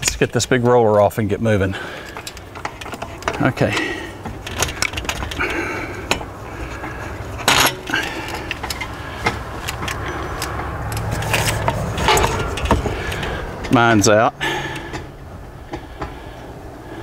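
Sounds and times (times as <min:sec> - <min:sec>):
metallic clicks and rattles: 0:00.0 - 0:14.1
steady low hum: 0:00.0 - 0:17.0.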